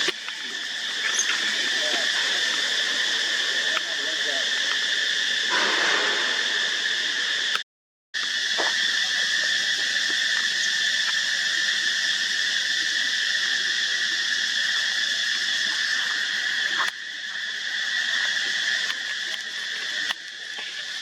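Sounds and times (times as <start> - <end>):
high-pitched insect chorus: 0.0 - 7.6, 8.2 - 21.0.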